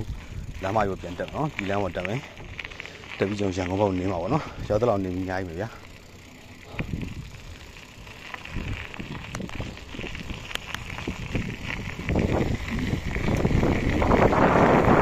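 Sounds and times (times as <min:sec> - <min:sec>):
wind buffeting microphone: 0:00.0 - 0:05.5, 0:06.6 - 0:15.0
bicycle clicks and rattles: 0:00.0 - 0:15.0.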